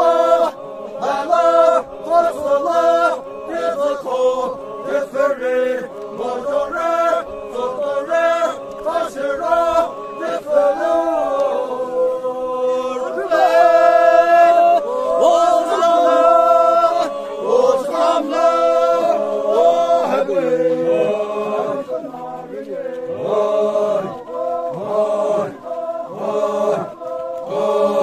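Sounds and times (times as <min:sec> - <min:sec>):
men chanting in unison: 0:00.0 - 0:28.0.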